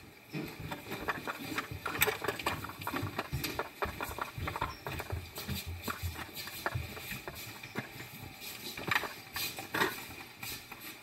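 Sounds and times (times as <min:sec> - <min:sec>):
footsteps indoors: 0:00.3 - 0:11.0.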